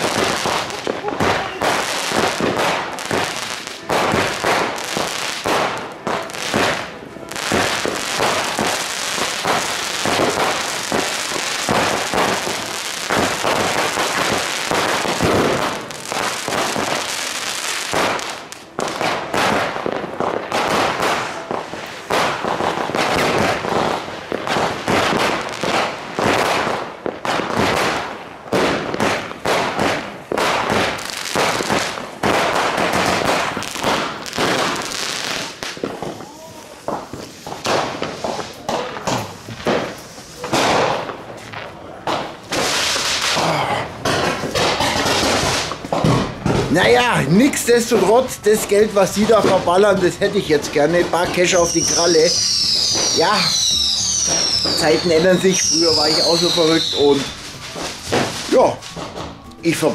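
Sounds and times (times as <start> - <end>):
fireworks and firecrackers banging: 0.0 - 59.9.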